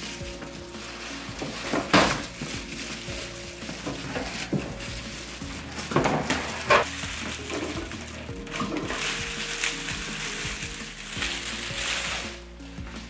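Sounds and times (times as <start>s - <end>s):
objects knocking and clattering: 0.0s - 12.2s
quiet background music: 0.0s - 13.0s.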